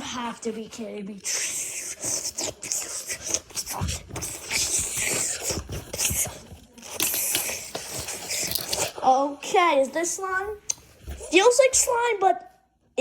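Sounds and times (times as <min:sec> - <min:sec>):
slime squishing by hand: 0:01.2 - 0:11.7.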